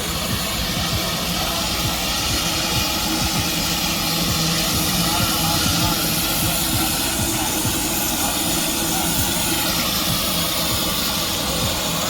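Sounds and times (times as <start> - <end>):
steam engine running: 0.0 - 12.0
steam hissing: 0.0 - 12.0.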